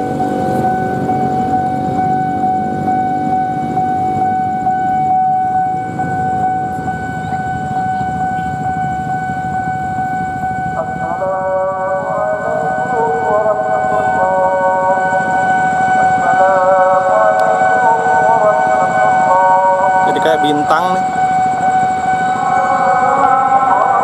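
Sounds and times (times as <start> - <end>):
level crossing alarm tone: 0.0 - 24.0
traffic rumble: 0.0 - 24.0.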